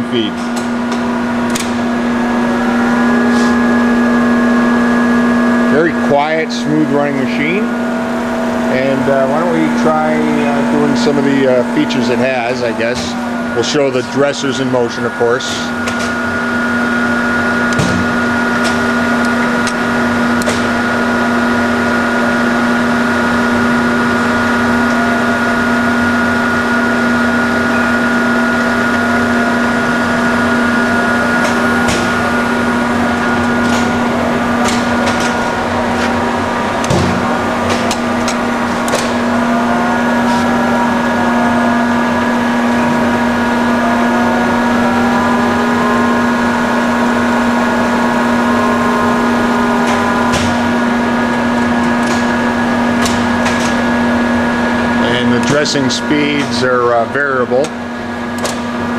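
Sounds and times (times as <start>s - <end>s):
grinder machine hum and whine: 0.0s - 58.9s.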